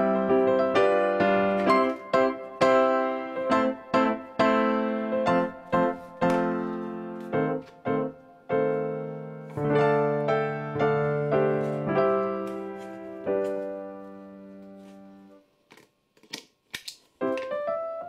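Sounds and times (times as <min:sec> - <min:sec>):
slow piano notes and chords: 0:00.0 - 0:15.4, 0:17.2 - 0:18.0.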